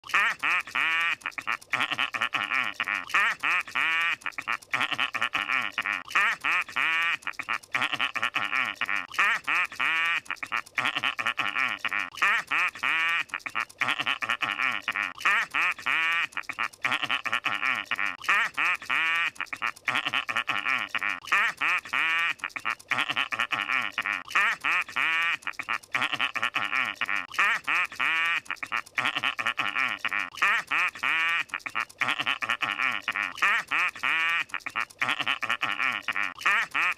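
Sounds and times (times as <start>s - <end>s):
cartoon laugh pulsing snicker: 0.0s - 36.9s.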